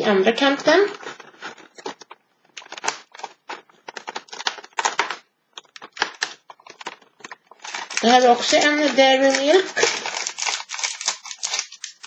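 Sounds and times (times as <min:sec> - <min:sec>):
cardboard tearing and crackling: 0:00.9 - 0:12.0.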